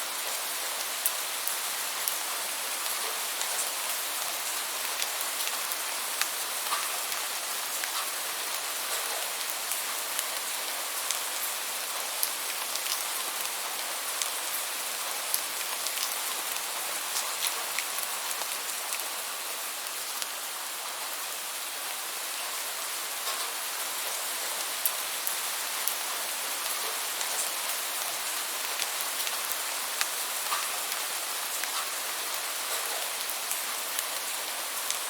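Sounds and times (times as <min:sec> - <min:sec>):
steady rainfall hiss: 0:00.0 - 0:35.0.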